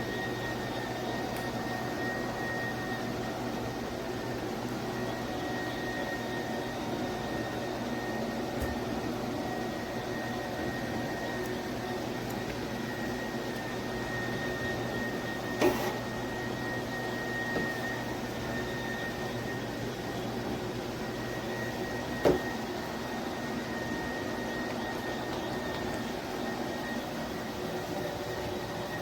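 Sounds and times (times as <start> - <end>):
electric spin mop motor hum: 0.0 - 29.0.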